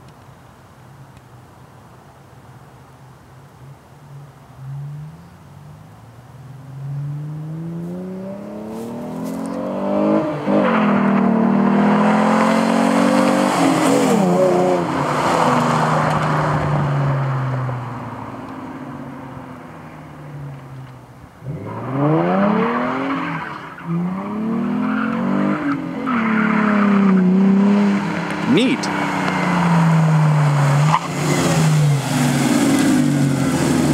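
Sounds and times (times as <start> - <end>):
car engine accelerating hard: 4.5 - 20.8, 21.4 - 33.9.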